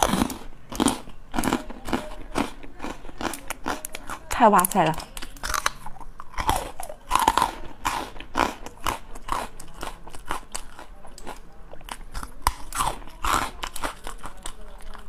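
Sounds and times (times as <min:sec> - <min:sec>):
crunching bites and chewing: 0:00.0 - 0:15.0.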